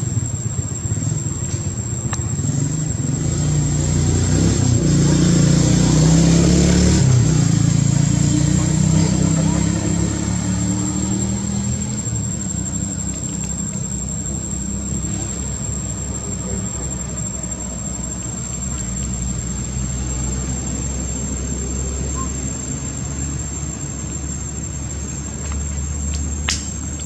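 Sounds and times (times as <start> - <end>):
engine running low rumble: 0.0 - 27.0.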